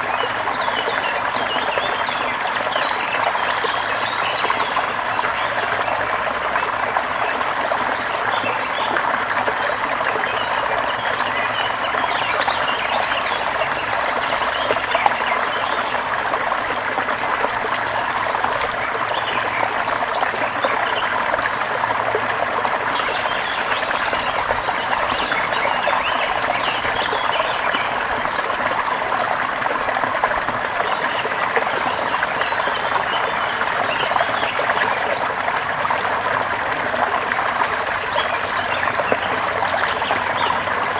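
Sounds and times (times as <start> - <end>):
stream water flowing and splashing: 0.0 - 40.9.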